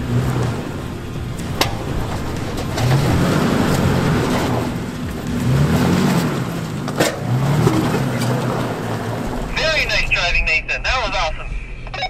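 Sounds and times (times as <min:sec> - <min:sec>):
car engine revving in pulses: 0:00.0 - 0:12.0.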